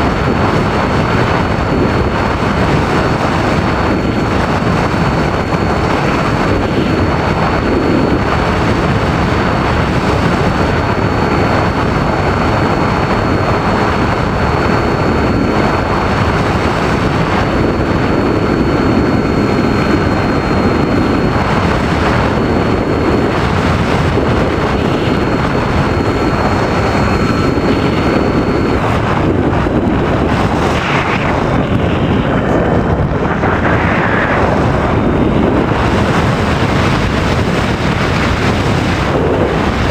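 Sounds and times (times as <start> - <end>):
thin steady whine: 0.0 - 39.9
wind rushing over microphone: 0.0 - 39.9.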